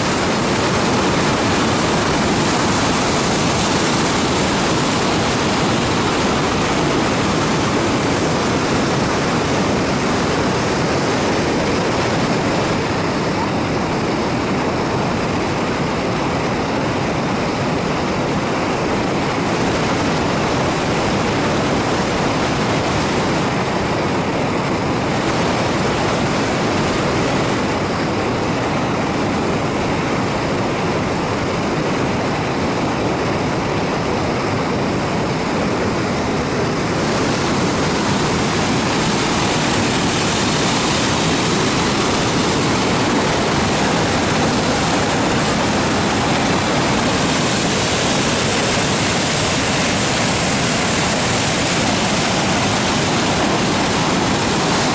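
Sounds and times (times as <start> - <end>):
river rushing over rocks: 0.0 - 54.9.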